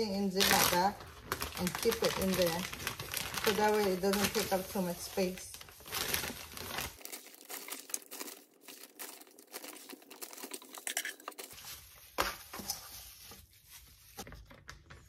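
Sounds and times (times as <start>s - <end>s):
plastic bag and gloves crinkling: 0.0s - 14.3s.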